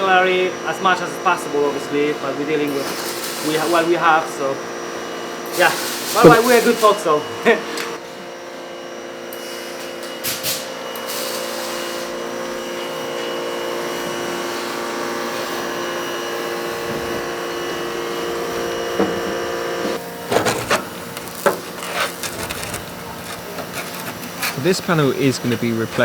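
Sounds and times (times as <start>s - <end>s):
electric motor humming: 0.0s - 26.0s.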